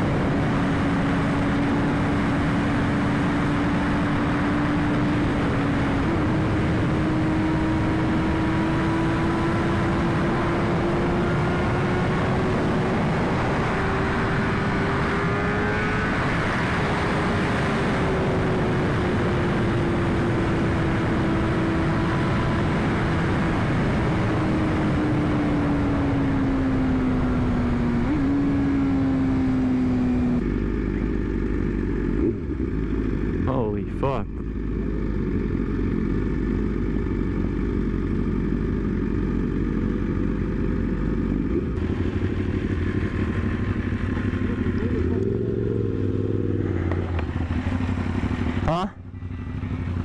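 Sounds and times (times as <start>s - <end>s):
motorcycle engine at high pitch: 0.0s - 50.0s.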